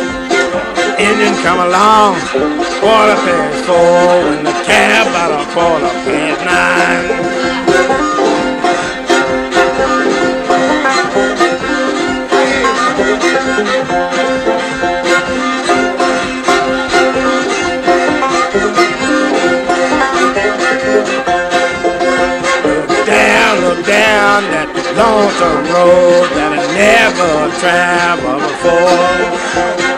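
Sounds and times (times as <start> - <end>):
bowed fiddle melody: 0.0 - 29.9
picked banjo notes: 0.0 - 29.9.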